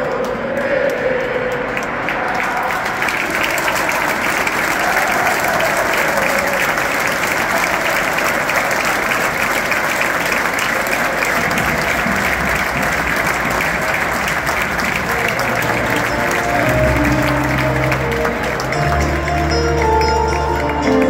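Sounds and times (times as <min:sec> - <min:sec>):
stadium crowd applauding: 0:00.0 - 0:21.0.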